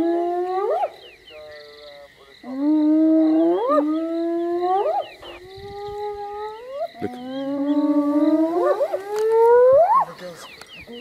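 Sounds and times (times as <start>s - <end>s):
hyenas calling: 0.0s - 11.0s.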